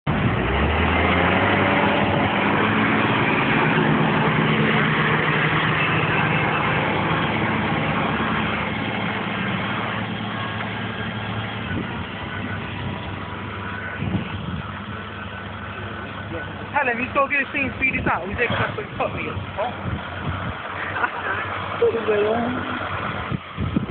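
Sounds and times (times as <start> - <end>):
tractor engine under load: 0.0 - 23.9.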